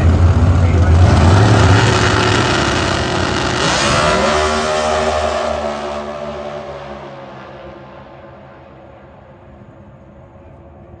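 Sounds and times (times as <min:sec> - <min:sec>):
dragster engines accelerating: 0:00.0 - 0:11.0.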